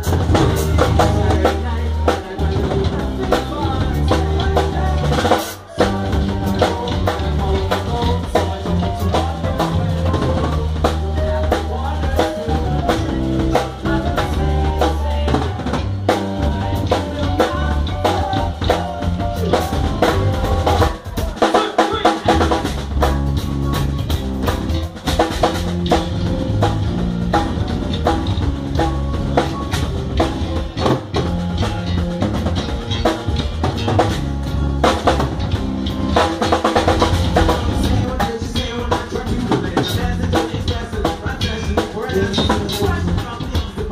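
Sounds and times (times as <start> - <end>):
electric bass: 0.0 - 21.4, 22.1 - 43.9
drum kit: 0.0 - 43.9
keyboard: 0.0 - 43.9.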